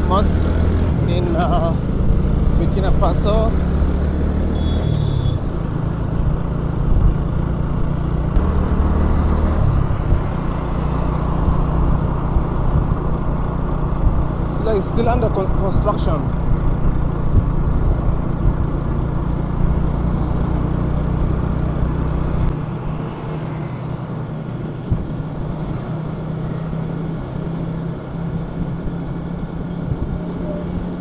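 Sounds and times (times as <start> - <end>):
motorbike engine drone: 0.0 - 31.0
road noise: 0.0 - 31.0.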